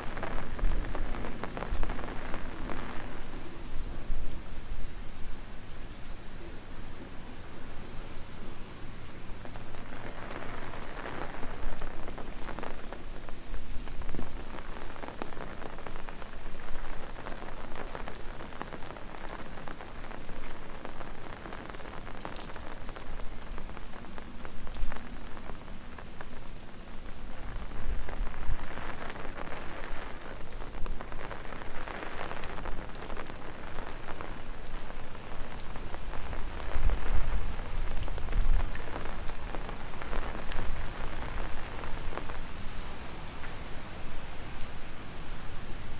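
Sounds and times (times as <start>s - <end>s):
heavy rain on an umbrella: 0.0s - 45.9s.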